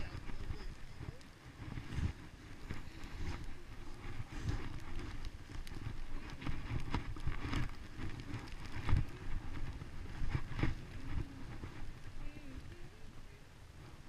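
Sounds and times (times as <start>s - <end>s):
skis scraping over snow: 0.0s - 13.2s
wind rumble on microphone: 0.0s - 14.0s.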